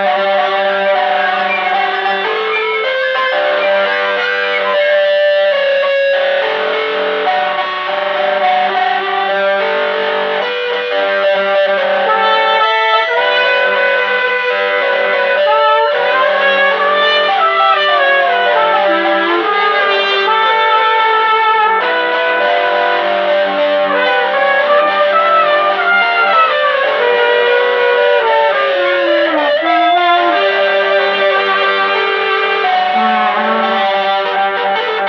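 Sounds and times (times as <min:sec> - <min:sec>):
distorted electric guitar: 0:00.0 - 0:35.0
sliding melody line: 0:00.0 - 0:35.0
trumpet: 0:00.0 - 0:35.0.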